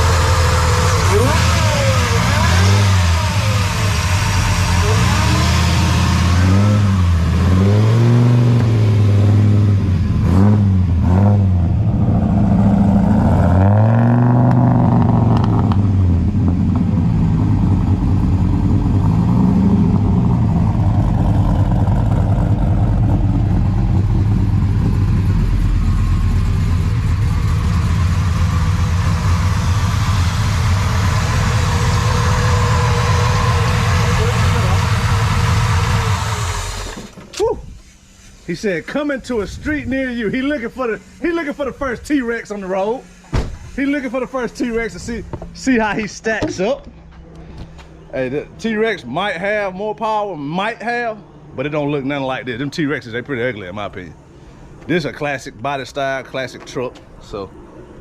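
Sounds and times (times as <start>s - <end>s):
truck engine idling: 0.0s - 7.4s, 15.9s - 58.0s
truck engine revving: 0.0s - 54.3s.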